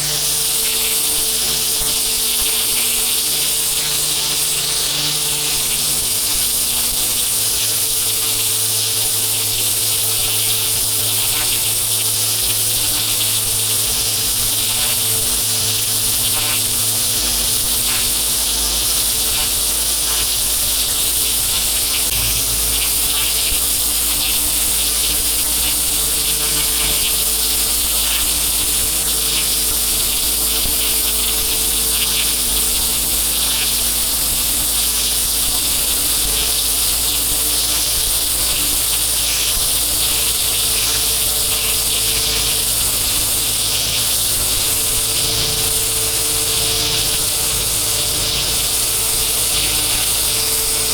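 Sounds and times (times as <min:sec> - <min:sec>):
machine low hum: 0:00.0 - 0:50.9
pressure washer water jet hiss: 0:00.0 - 0:50.9.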